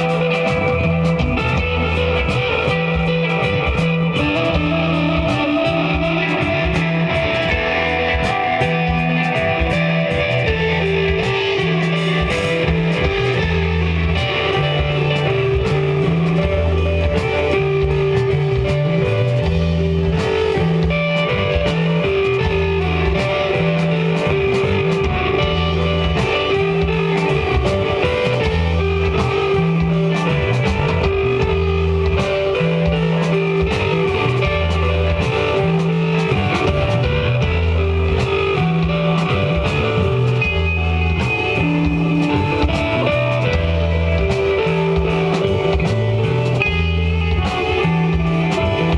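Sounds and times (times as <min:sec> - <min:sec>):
bass line: 0:00.0 - 0:48.9
drum kit and cymbals: 0:00.0 - 0:48.9
electric guitar: 0:00.0 - 0:48.9.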